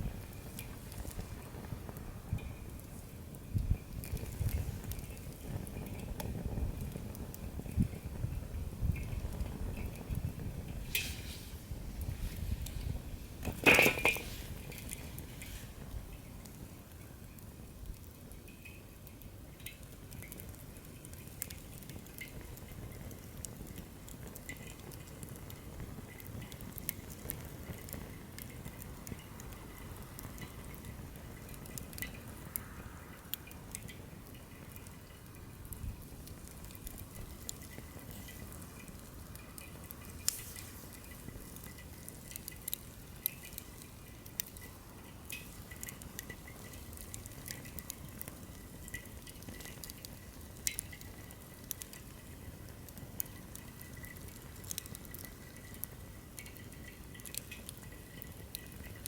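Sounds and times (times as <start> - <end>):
flames rushing: 0.0 - 18.1, 19.6 - 59.0
firewood crackling and popping: 0.0 - 59.0.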